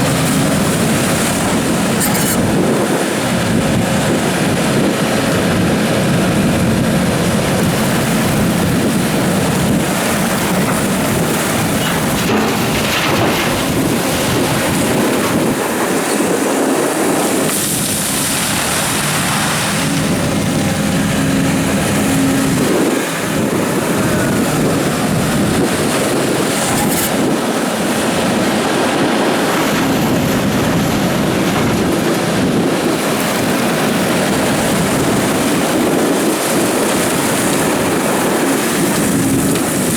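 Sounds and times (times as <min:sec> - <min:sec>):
excavator engine and hydraulics rumble: 0:00.0 - 0:39.9.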